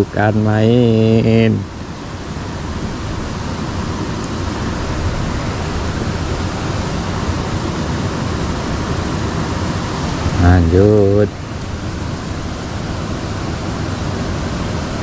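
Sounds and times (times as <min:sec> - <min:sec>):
water rushing in a ditch: 0:00.0 - 0:15.0.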